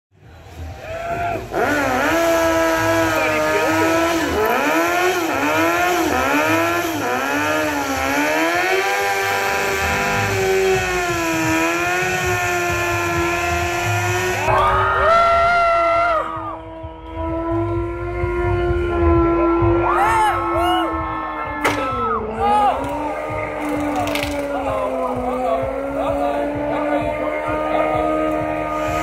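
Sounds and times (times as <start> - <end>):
motorcycle engine revving hard: 1.1 - 14.7, 17.0 - 21.6, 22.3 - 29.0.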